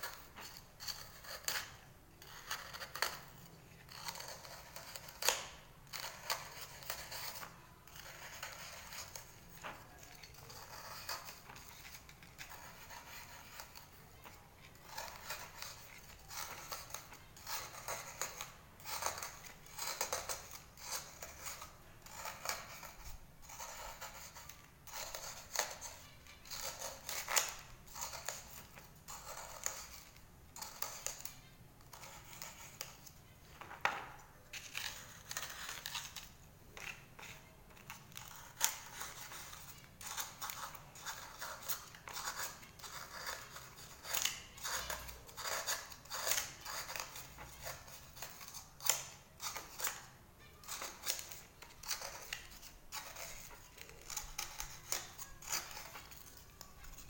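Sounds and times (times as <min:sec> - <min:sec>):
knife scraping bone: 0:00.0 - 0:33.2, 0:34.0 - 0:57.0.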